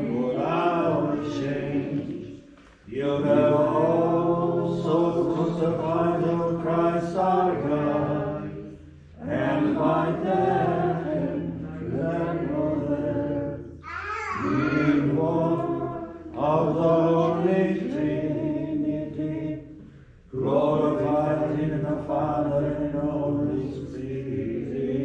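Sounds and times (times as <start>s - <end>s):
church choir chanting a hymn: 0.0s - 13.8s, 14.4s - 25.0s.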